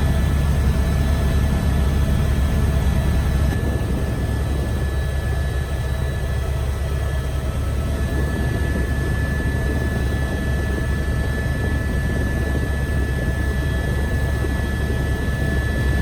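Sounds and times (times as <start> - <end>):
helicopter cabin drone: 0.0 - 16.0
high whine: 0.0 - 16.0.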